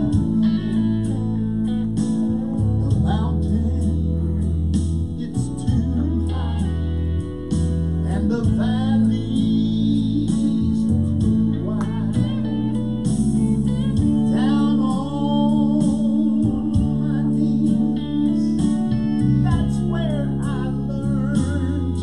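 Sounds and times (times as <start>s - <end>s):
man singing into a microphone: 0.0s - 12.8s, 13.6s - 22.0s
bass line: 0.0s - 22.0s
guitar accompaniment: 0.0s - 22.0s.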